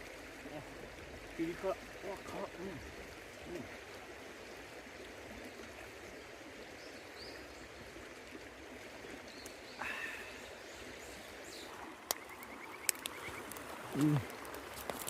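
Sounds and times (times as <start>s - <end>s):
river water running over stones: 0.0s - 15.0s.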